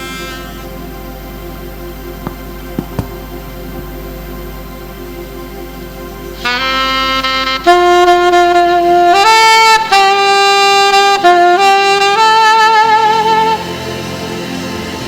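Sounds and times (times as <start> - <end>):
saxophone slow melody: 0.0 - 13.7
soft musical backing: 0.0 - 15.0.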